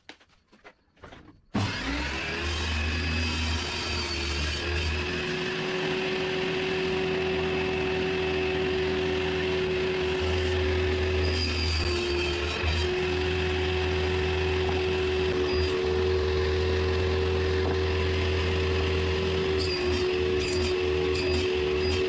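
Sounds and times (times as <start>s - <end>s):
jigsaw motor whining: 1.5s - 22.0s.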